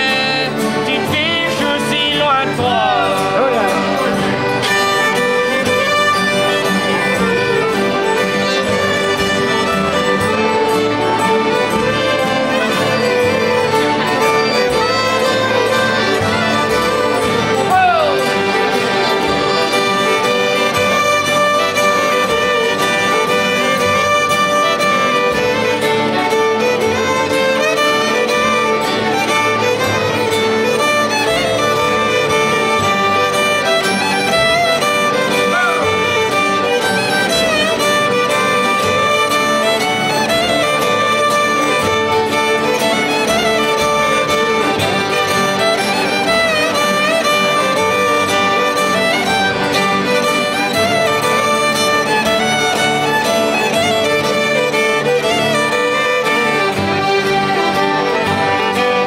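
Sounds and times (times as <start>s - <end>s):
button accordion: 0.0s - 59.0s
fiddles playing melody: 0.0s - 59.0s
strummed acoustic guitars: 0.0s - 59.0s.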